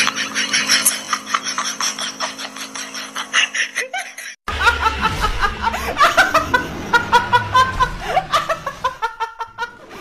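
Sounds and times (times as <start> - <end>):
young woman laughing: 0.0 - 9.9.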